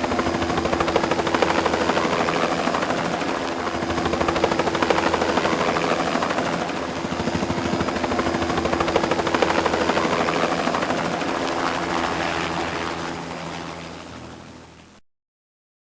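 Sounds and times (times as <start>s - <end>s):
helicopter engine tone: 0.0s - 15.0s
helicopter rotor chop: 0.0s - 15.0s.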